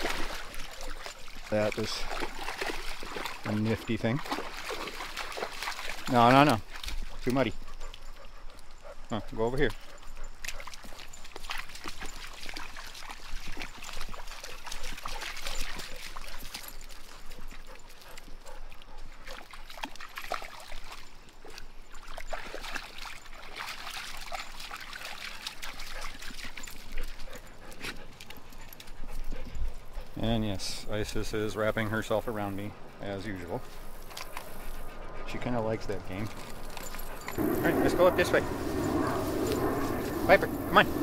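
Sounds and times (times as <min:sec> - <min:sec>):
dog splashing through water: 0:00.0 - 0:08.2, 0:09.2 - 0:29.0, 0:33.1 - 0:41.0
creek trickling: 0:00.0 - 0:41.0.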